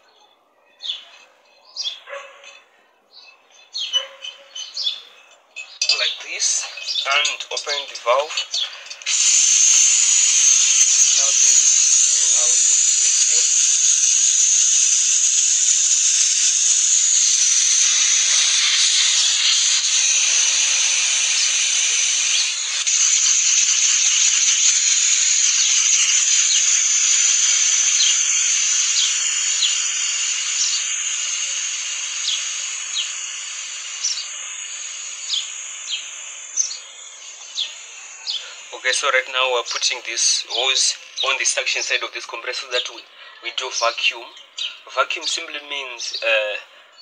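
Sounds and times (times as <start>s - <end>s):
compressed air hissing from valve: 3.8s - 46.9s.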